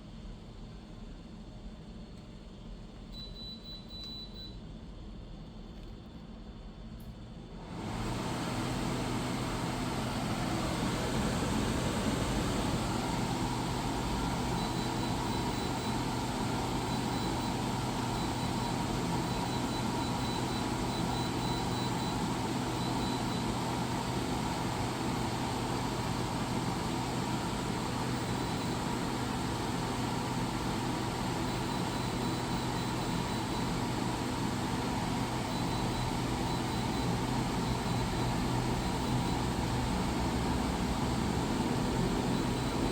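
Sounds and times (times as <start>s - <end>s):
air conditioner fan rushing: 6.6s - 42.9s.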